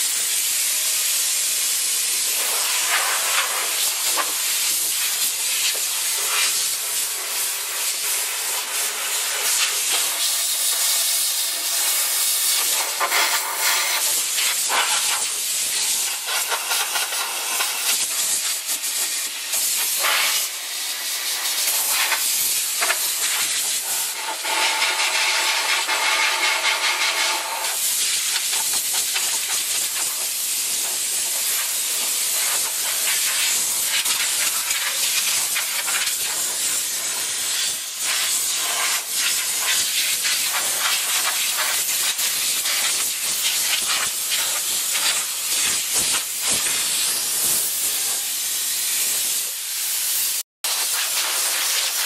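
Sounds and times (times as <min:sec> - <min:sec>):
paint spray gun hissing: 0:00.0 - 0:52.0.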